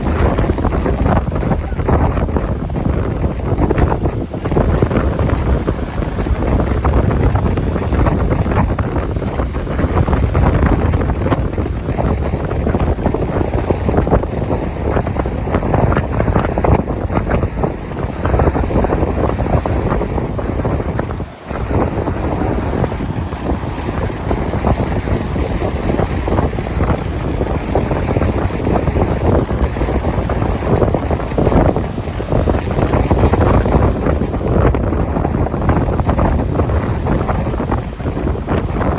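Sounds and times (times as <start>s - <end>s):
sea waves washing: 0.0s - 38.9s
wind buffeting microphone: 0.0s - 38.9s.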